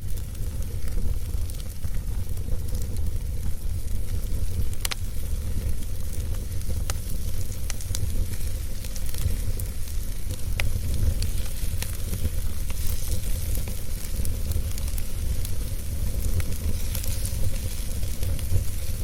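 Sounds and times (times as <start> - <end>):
fire rumble and hiss: 0.0 - 19.0
wood fire crackling and popping: 0.0 - 19.0.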